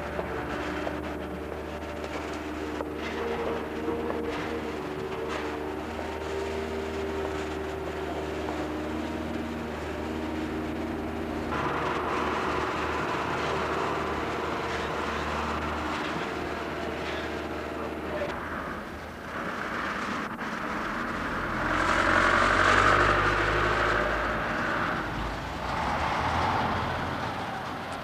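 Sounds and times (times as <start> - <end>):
hissy traffic rush: 0.0 - 28.0
vehicle engine droning: 0.0 - 28.0.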